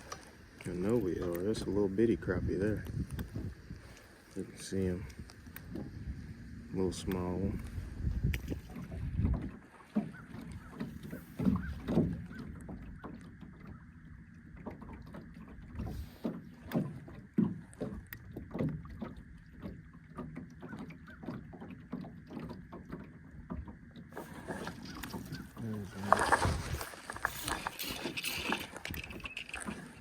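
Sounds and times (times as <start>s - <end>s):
waves slapping boat hull: 0.0s - 30.0s.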